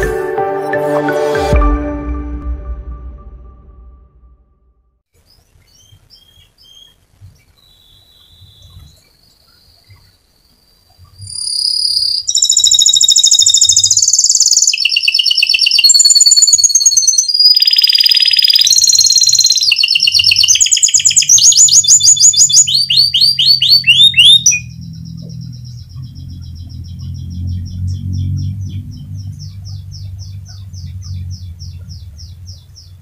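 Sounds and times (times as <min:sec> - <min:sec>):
canary singing trills: 0:05.2 - 0:33.0.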